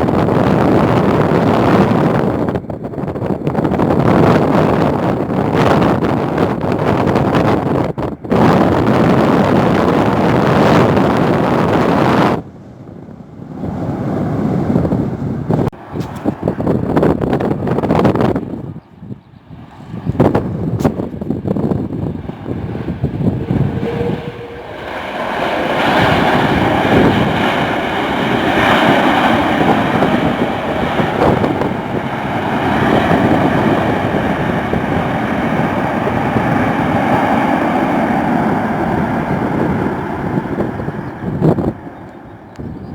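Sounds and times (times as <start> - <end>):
jet engine rushing: 0.0 - 42.9.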